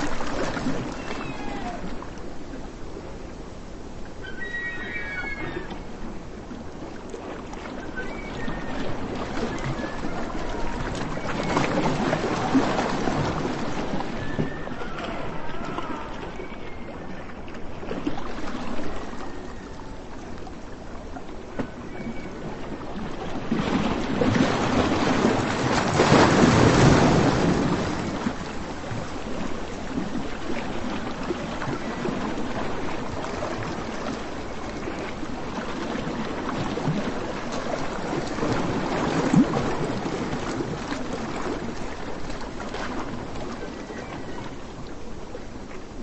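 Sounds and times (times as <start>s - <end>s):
waves breaking on sandy beach: 0.0s - 46.0s.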